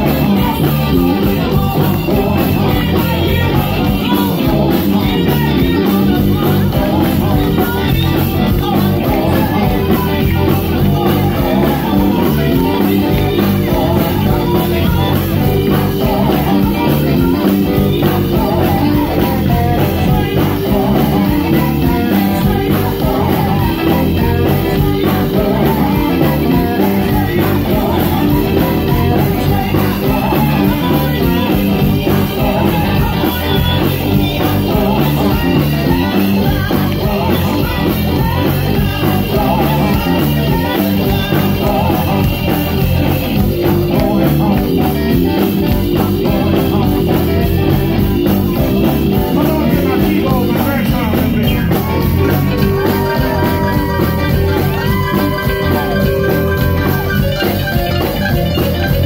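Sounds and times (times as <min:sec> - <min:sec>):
bass guitar: 0:00.0 - 0:59.0
drum kit: 0:00.0 - 0:59.0
electric guitars: 0:00.0 - 0:59.0
women singing: 0:00.0 - 0:59.0.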